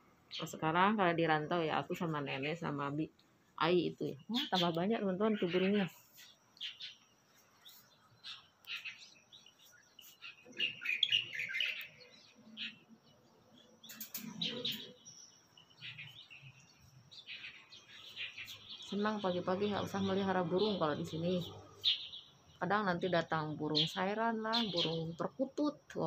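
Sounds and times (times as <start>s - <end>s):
flock of birds chirping: 0.3s - 26.0s.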